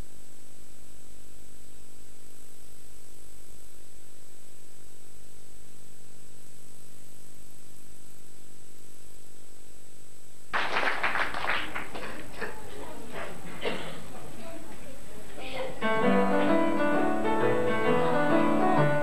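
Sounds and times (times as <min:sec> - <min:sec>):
electrical mains hum: 0:00.0 - 0:19.0
tape hiss: 0:00.0 - 0:19.0.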